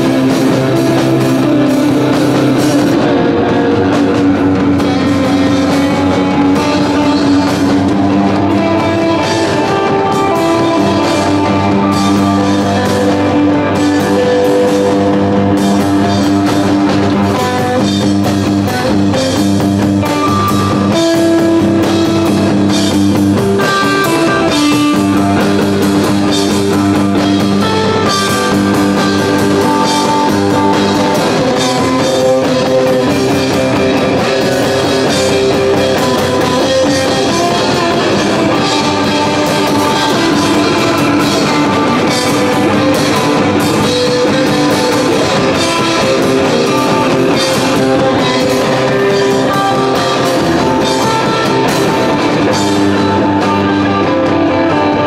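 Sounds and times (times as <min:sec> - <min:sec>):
drum kit: 0:00.0 - 0:55.0
electric guitar sustained notes: 0:00.0 - 0:55.0
live rock band playing: 0:00.0 - 0:55.0.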